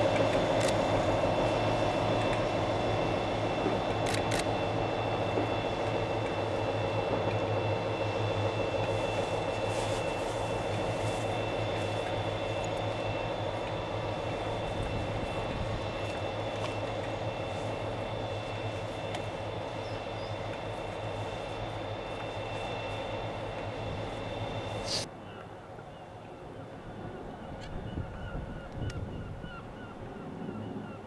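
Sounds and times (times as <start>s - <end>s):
diesel locomotive engines running: 0.0s - 31.0s.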